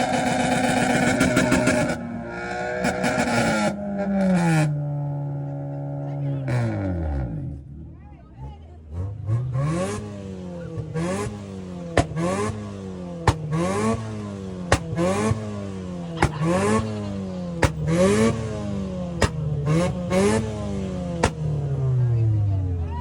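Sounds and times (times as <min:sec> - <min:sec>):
car engine revving hard: 0:00.0 - 0:07.8, 0:08.5 - 0:22.3.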